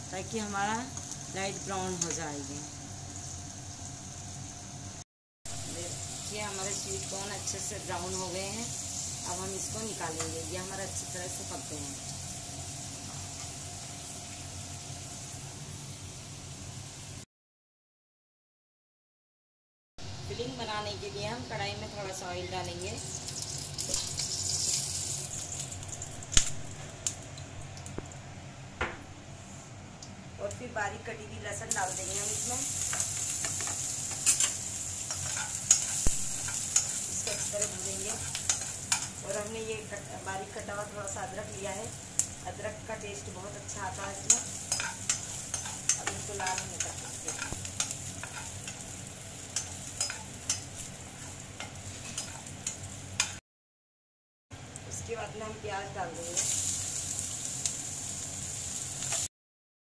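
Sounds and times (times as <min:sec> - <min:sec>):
oil sizzling: 0:00.0 - 0:17.2, 0:21.6 - 0:29.4, 0:31.4 - 0:53.4, 0:54.6 - 0:59.3.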